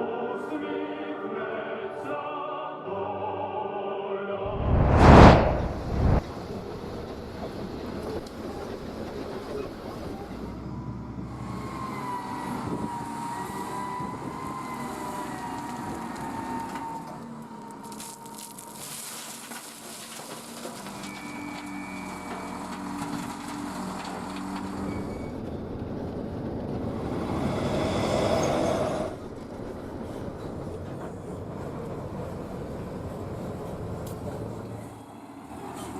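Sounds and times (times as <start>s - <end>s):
vehicle engine rumble: 4.5s - 35.9s.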